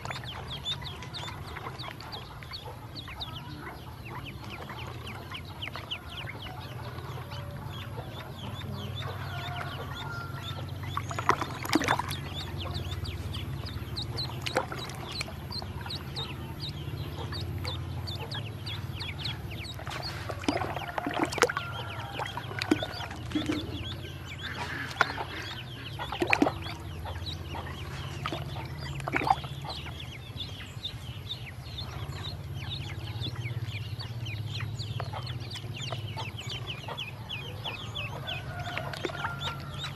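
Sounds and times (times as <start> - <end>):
ducklings peeping: 0.0 - 39.9
low steady hum: 0.0 - 39.9.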